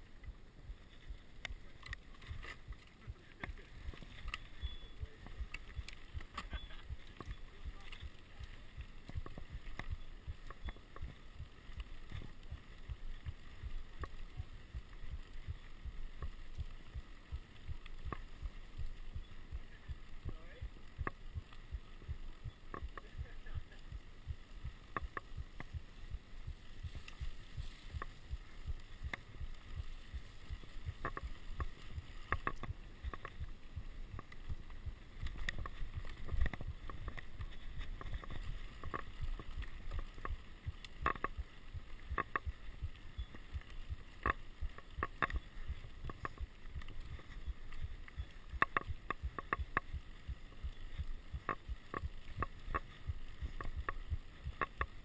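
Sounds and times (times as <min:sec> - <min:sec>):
bike tyres rumbling on dirt: 0:00.0 - 0:55.0
bike clicks and rattles: 0:00.3 - 0:55.0.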